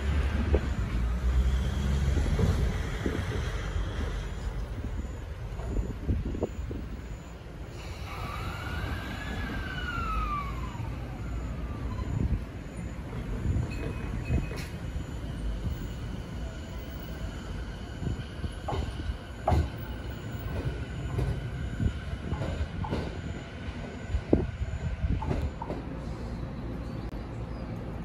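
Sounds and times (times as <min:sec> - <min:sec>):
electric train whine: 0:00.0 - 0:28.0.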